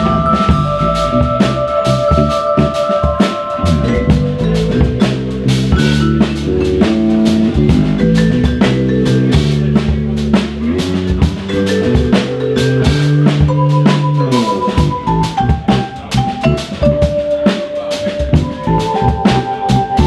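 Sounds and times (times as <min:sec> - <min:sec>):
drum kit with snare and rimshots: 0:00.0 - 0:20.0
electric bass line: 0:00.0 - 0:20.0
vibraphone notes and chords: 0:00.0 - 0:20.0.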